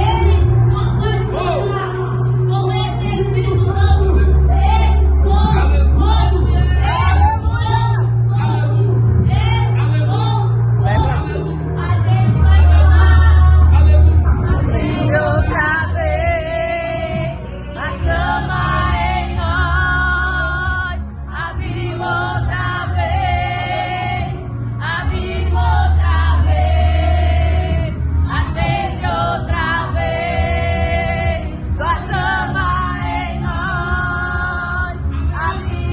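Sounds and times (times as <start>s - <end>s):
band with strong bass: 0.0s - 35.9s
group of voices singing: 0.0s - 35.9s.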